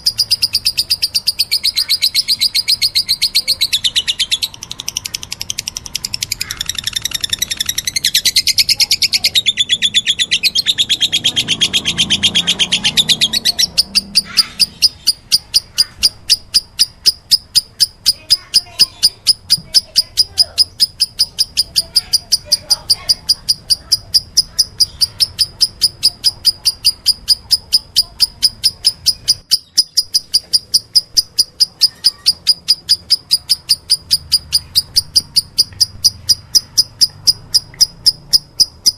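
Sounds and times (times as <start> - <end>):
lovebird chattering: 0.0 - 38.9.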